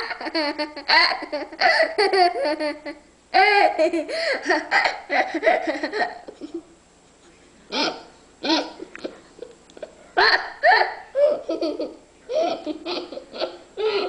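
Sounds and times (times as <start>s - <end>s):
child giggling: 0.0s - 6.8s, 7.7s - 14.0s.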